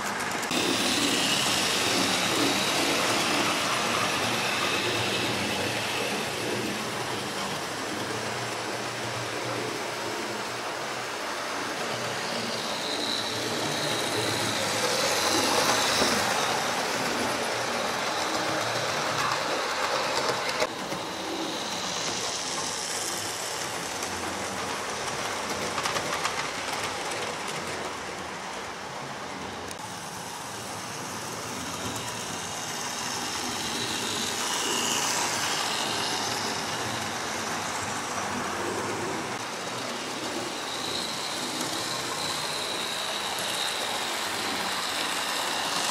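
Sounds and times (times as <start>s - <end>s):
model train wheels on track: 0.0s - 45.9s
small electric motors whirring: 0.2s - 27.2s, 30.4s - 45.9s.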